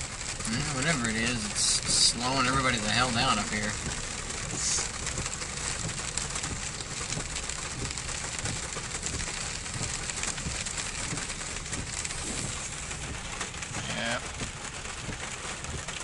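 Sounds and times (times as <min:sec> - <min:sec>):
low engine hum: 0:00.0 - 0:16.0
rain on a truck roof: 0:00.0 - 0:16.0.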